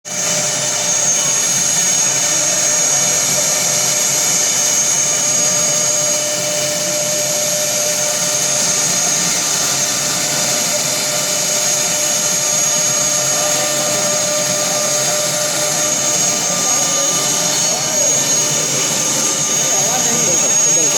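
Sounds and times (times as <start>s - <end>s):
cnc router whining: 0.1s - 20.9s.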